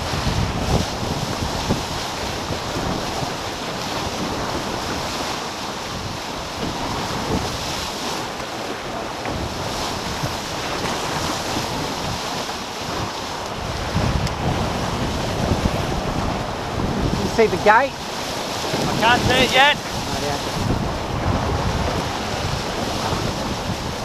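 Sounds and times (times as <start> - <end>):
water rushing past hulls: 0.0 - 24.0
wind buffeting microphone: 0.0 - 24.0.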